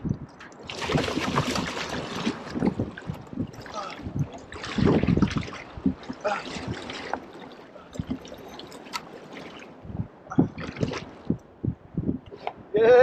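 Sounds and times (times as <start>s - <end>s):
water splashing against kayak: 0.2s - 11.4s.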